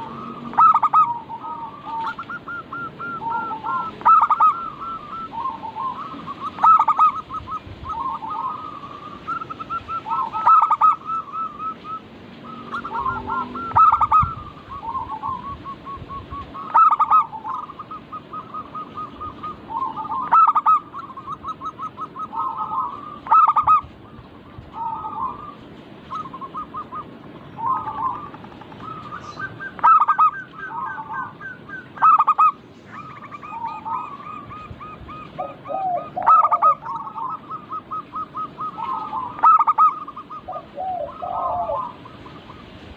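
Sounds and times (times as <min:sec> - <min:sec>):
doves trilled cooing: 0:00.0 - 0:42.9.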